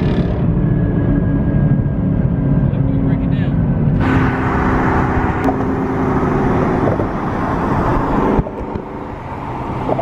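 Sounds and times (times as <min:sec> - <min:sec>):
road noise: 0:00.0 - 0:10.0
car engine from inside: 0:01.4 - 0:10.0.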